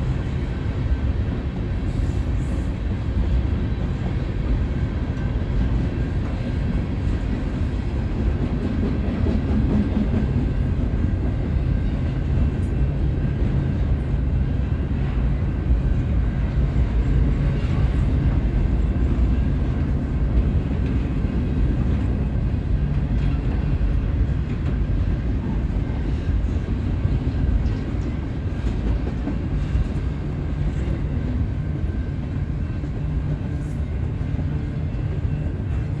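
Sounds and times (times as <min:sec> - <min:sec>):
train rumbling past: 0:00.0 - 0:36.0.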